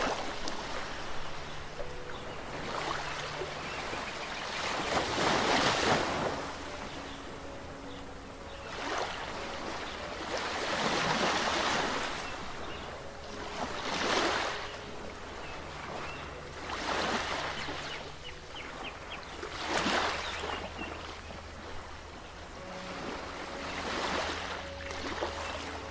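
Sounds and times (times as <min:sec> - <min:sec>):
surf washing on shore: 0:00.0 - 0:25.9.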